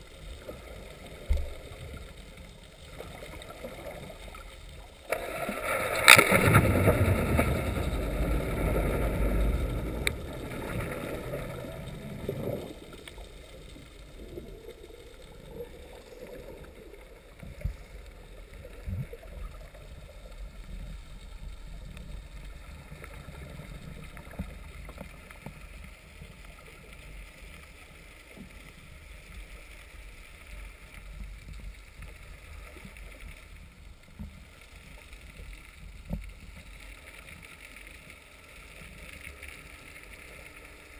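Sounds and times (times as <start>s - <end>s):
muffled underwater churning: 0.0s - 40.9s.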